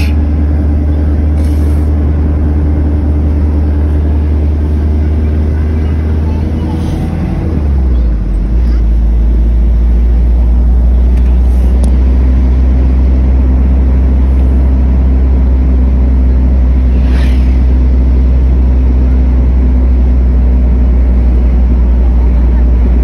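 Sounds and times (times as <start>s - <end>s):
car interior road rumble: 0.0s - 23.0s.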